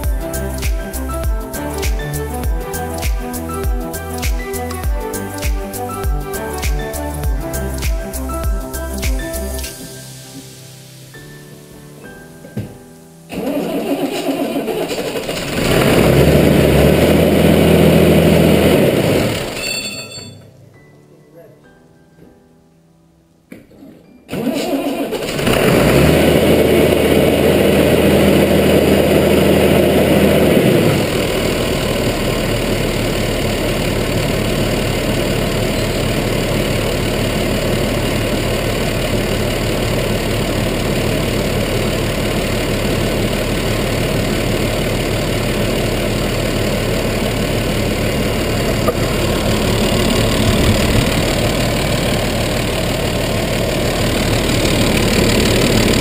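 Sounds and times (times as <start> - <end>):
tractor diesel engine running: 0.0 - 9.6, 13.3 - 20.4, 24.3 - 56.0.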